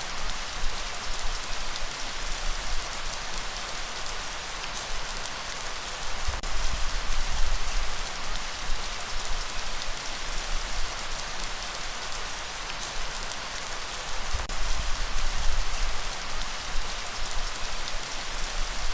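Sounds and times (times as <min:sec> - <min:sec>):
steady rainfall: 0:00.0 - 0:18.9.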